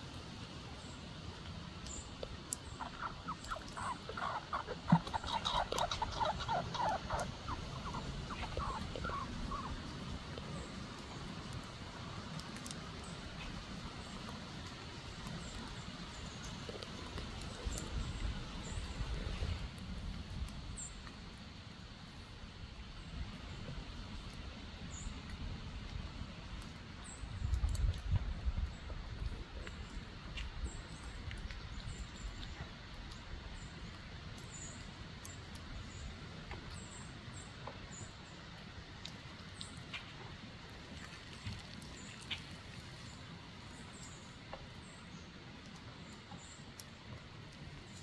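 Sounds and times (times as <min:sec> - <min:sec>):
squirrel chewing corn: 0:01.6 - 0:21.3, 0:23.0 - 0:48.0.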